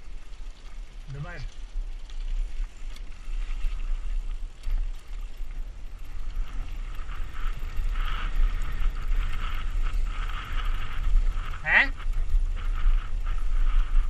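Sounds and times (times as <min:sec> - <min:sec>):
bike rattling: 0:00.0 - 0:14.0
wind rumble on microphone: 0:00.0 - 0:14.0.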